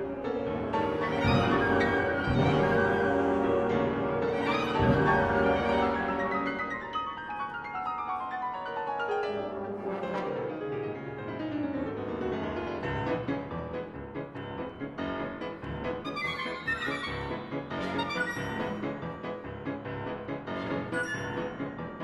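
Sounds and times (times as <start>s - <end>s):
solo piano fast runs: 0.0s - 22.0s.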